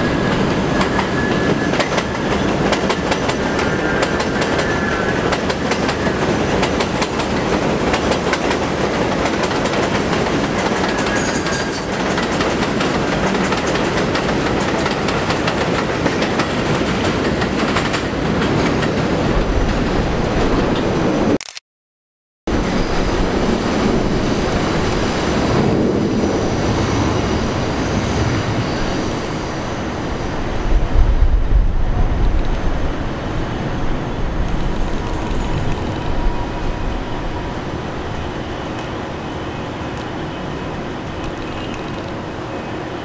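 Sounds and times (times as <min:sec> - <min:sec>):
train wheels rumbling on rails: 0:00.0 - 0:21.3, 0:22.5 - 0:43.0.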